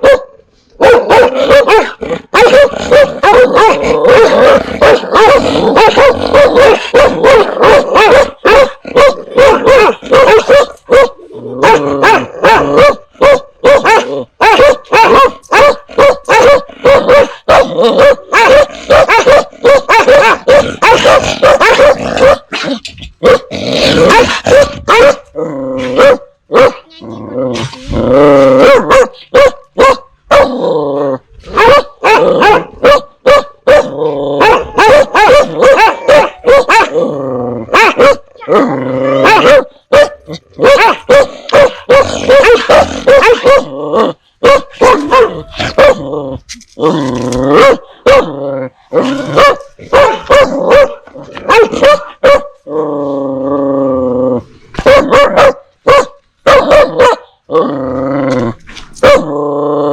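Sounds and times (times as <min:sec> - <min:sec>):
dogs barking fiercely: 0:00.0 - 0:26.9, 0:28.5 - 0:30.7, 0:31.4 - 0:46.2, 0:47.4 - 0:52.7, 0:54.7 - 0:57.5, 0:58.9 - 0:59.4.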